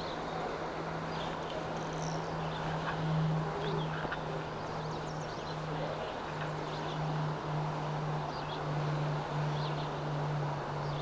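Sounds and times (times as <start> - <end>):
shallow river flowing: 0.0 - 11.0
steady low hum: 0.0 - 11.0.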